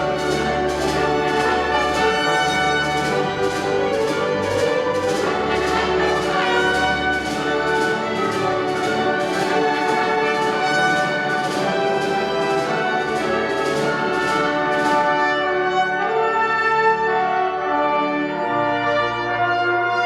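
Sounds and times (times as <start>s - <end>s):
orchestra with brass: 0.0s - 20.0s.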